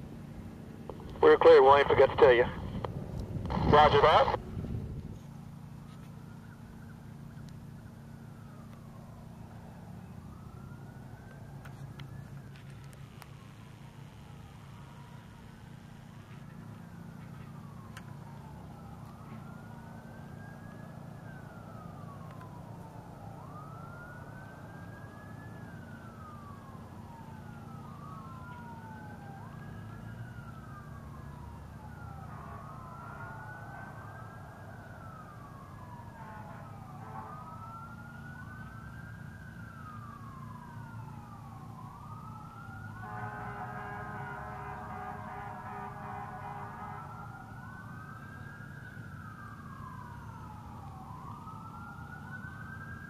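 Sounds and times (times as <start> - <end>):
distant wailing siren: 0.0 - 53.0.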